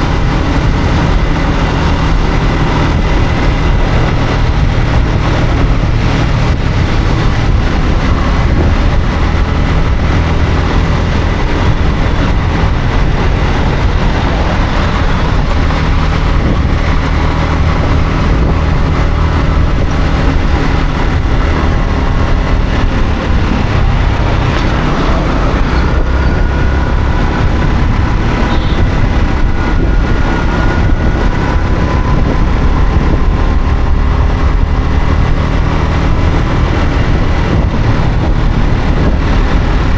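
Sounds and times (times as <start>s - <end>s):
motorcycle engine running: 0.0s - 39.9s
road and traffic noise: 0.0s - 39.9s.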